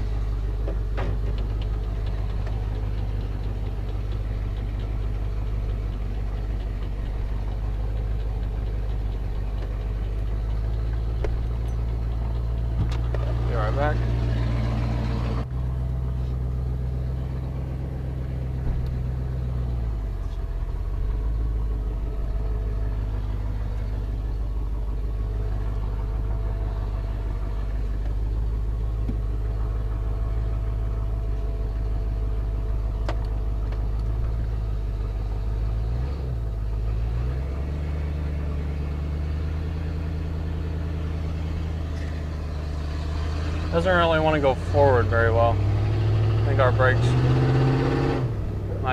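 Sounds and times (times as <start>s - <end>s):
truck engine idling: 0.0s - 48.9s.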